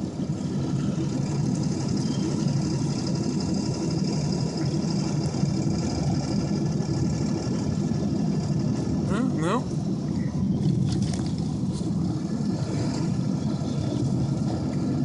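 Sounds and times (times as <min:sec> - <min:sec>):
engine drone inside truck cab: 0:00.0 - 0:15.0
road noise: 0:00.0 - 0:15.0.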